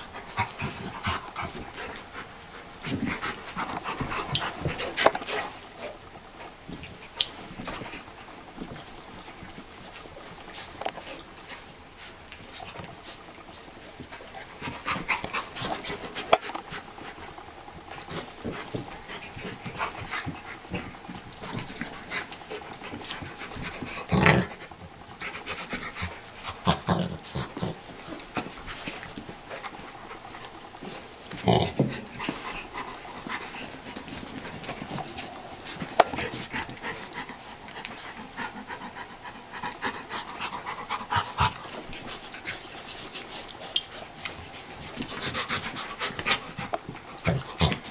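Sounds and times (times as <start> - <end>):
dogs scuffling on carpet: 0.0 - 47.9
dogs breathing: 6.9 - 47.9.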